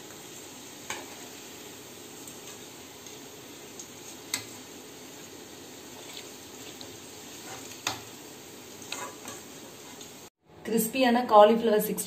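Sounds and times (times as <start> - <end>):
vegetables sizzling in hot oil: 0.0 - 10.3.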